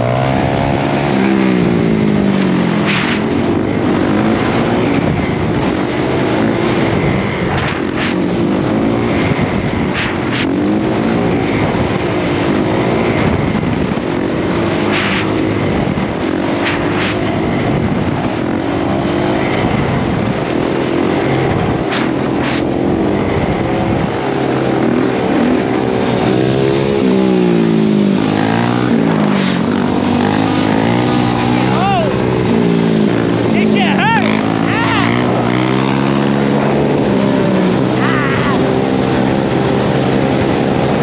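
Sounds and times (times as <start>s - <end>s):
wind noise on microphone: 0.0s - 33.6s
dirt bike engine revving: 0.0s - 41.0s
other engines revving: 0.0s - 41.0s.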